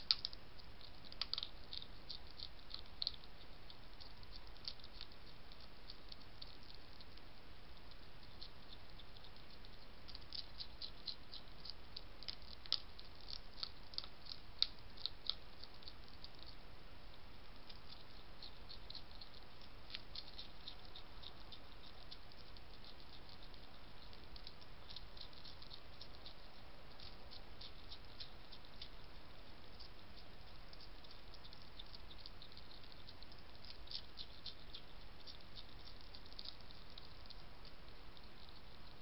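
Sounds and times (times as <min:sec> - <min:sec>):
hedgehog crunching dry food: 0:00.0 - 0:39.0
steady low hiss: 0:00.0 - 0:39.0.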